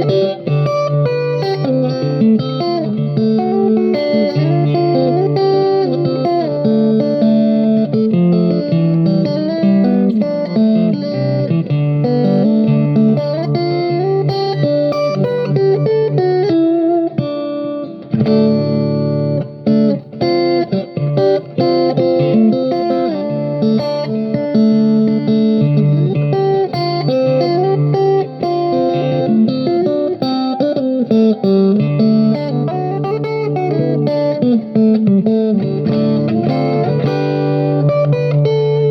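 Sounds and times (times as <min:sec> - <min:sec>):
plucked guitar notes: 0:00.0 - 0:38.9.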